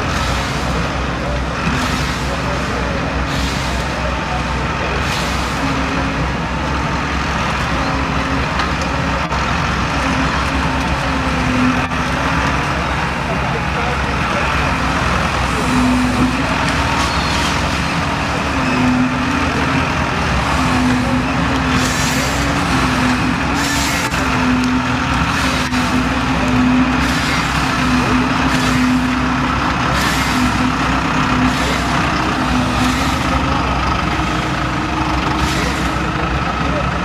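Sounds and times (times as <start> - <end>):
hydraulic crane whine: 0.0 - 37.0
tractor diesel engine running: 0.0 - 37.0.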